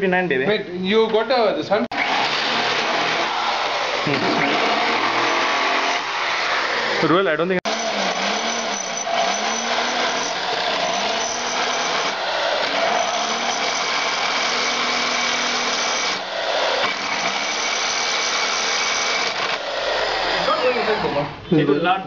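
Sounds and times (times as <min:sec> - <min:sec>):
electric drill boring: 0:01.9 - 0:21.4.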